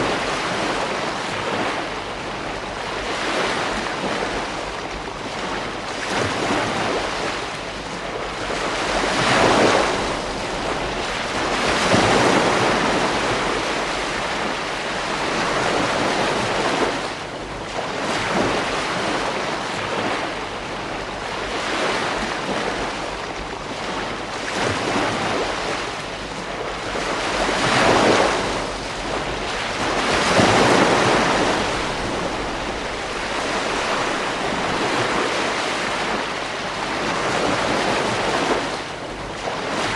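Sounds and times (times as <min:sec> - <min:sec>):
ocean waves breaking on beach: 0:00.0 - 0:39.9
surf washing: 0:00.0 - 0:39.9.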